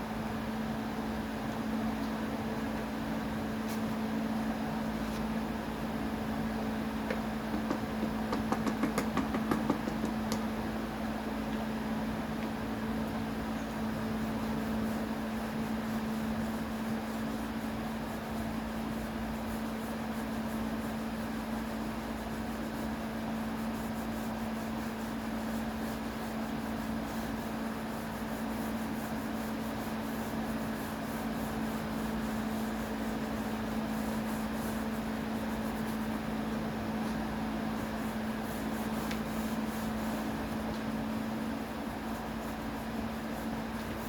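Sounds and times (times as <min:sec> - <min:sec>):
machine hum with hiss: 0:00.0 - 0:44.0.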